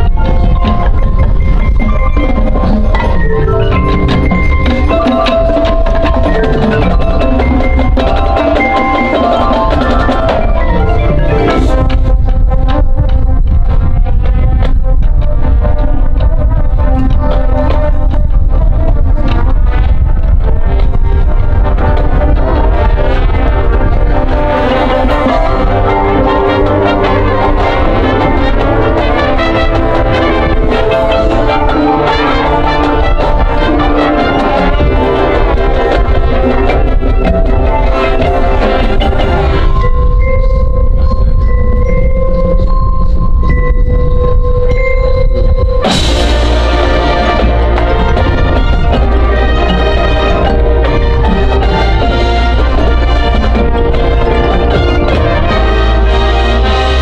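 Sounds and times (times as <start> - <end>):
mallet percussion: 0.0 - 15.2, 20.4 - 57.0
drums: 0.0 - 57.0
marching band playing: 0.0 - 57.0
low bass: 9.5 - 57.0.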